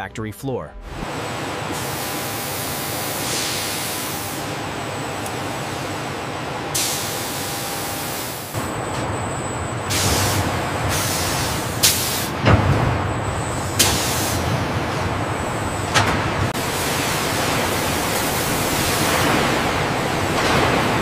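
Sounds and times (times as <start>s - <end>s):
hissing factory machinery: 0.8s - 21.0s.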